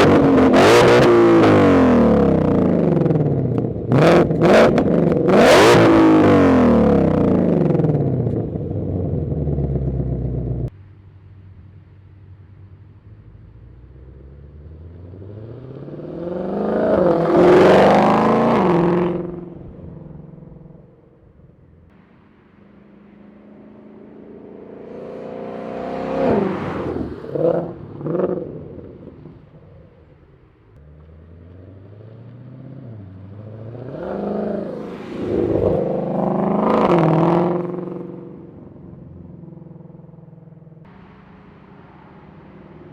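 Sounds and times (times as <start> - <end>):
car engine revving: 0.0 - 10.8, 11.9 - 42.9.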